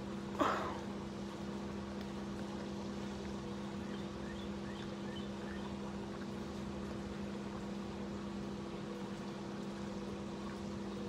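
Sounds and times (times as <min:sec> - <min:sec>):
pump motor humming: 0:00.0 - 0:11.0.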